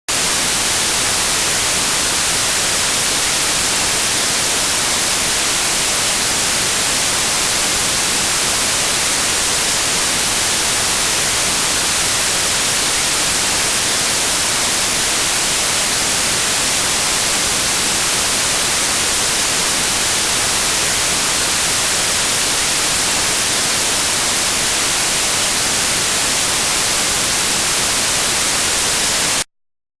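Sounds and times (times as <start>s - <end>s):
white noise hiss: 0.1s - 29.4s.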